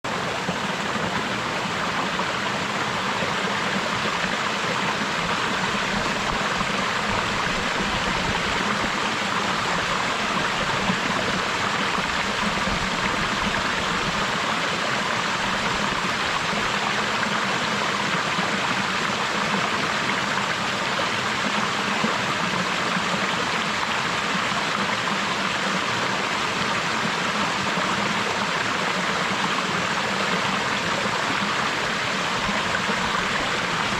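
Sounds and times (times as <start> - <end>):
small waterfall splashing: 0.1 - 33.9.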